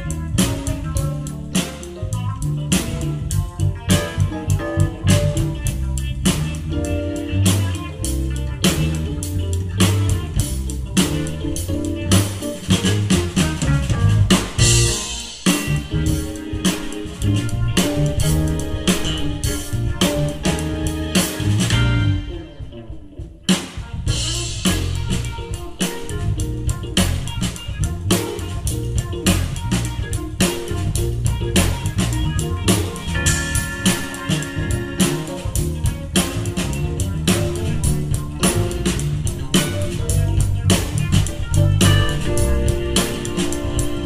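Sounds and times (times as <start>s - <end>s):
drum beat: 0.0s - 22.0s, 23.2s - 44.0s
electric bass: 0.0s - 44.0s
electric guitar: 0.0s - 44.0s
keyboards: 0.0s - 44.0s.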